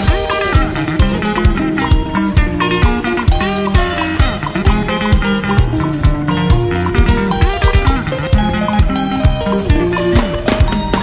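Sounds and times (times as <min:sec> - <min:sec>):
bass line: 0:00.0 - 0:11.0
drum kit beat: 0:00.0 - 0:11.0
plucked guitar notes: 0:00.0 - 0:11.0.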